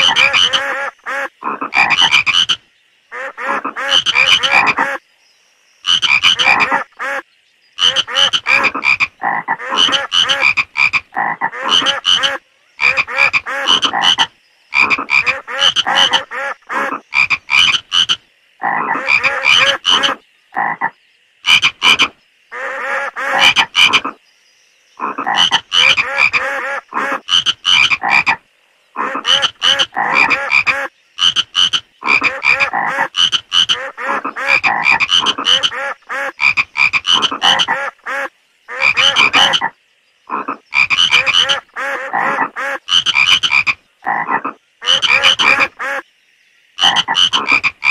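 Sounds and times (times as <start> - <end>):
frogs croaking: 0.0 - 47.9.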